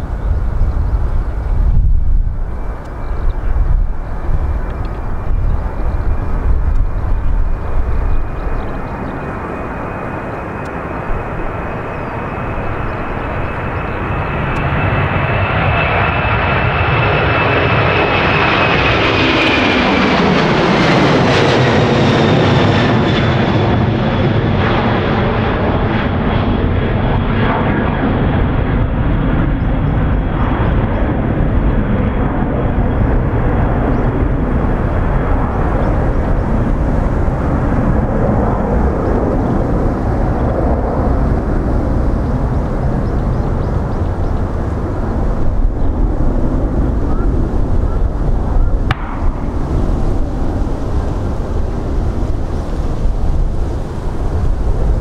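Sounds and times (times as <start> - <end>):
jet airliner taking off: 0.0 - 55.0.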